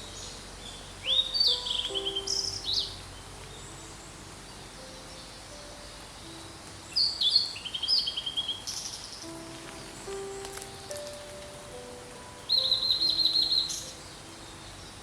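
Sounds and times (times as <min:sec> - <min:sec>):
bird singing whistles and trill: 0:00.0 - 0:15.0.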